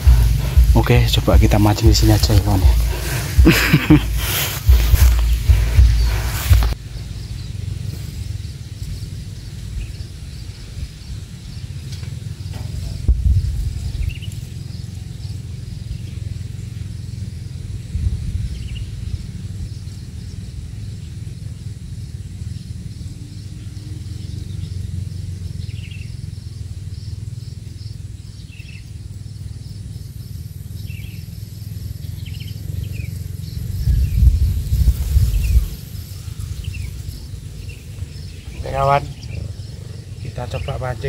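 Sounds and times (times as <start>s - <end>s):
low rumble on microphone: 0.0s - 27.2s, 31.9s - 41.0s
high insect-like whine: 0.0s - 41.0s.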